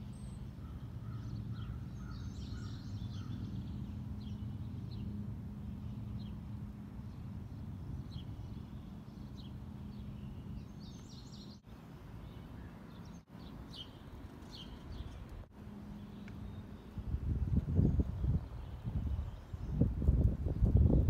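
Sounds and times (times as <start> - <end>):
birds chirping: 0.0 - 20.8.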